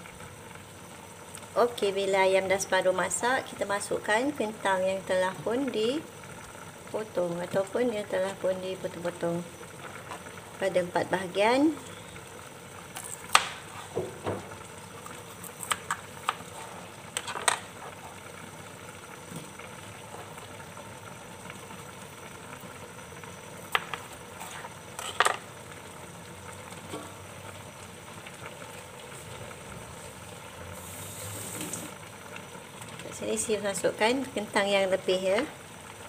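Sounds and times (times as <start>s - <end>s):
broth bubbling in a pot: 0.0s - 36.0s.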